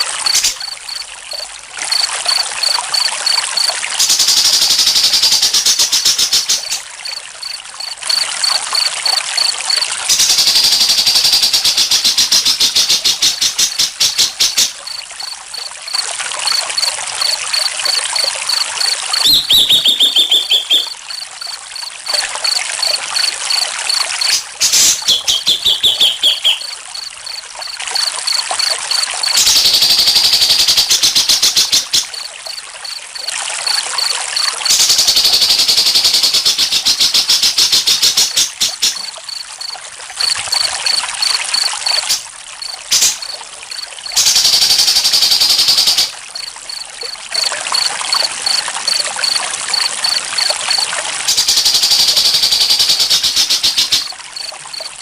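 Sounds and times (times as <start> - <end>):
crickets chirping: 0.0 - 55.0
trickling water: 0.0 - 55.0.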